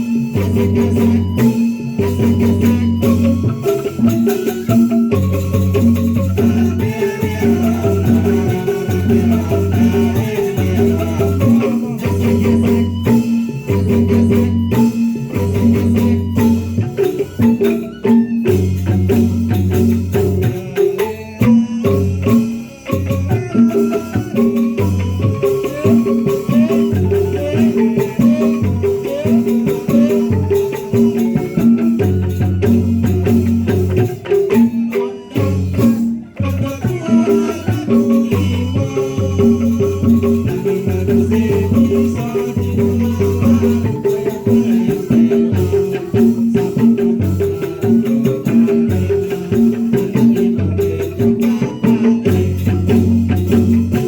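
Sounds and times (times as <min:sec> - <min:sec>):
mallet instruments playing pattern: 0:00.0 - 0:54.0
rattles or shakers: 0:00.0 - 0:54.0.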